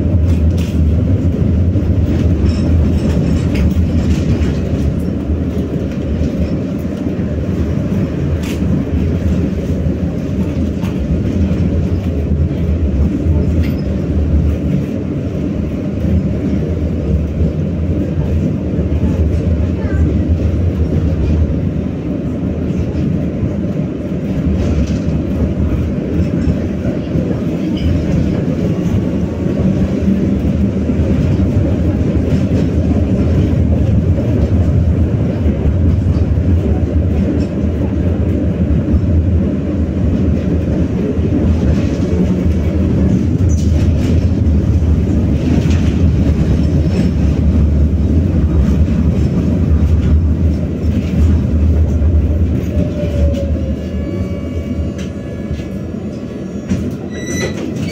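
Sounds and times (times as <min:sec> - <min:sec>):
tram wheels rumbling on rails: 0:00.0 - 0:57.9.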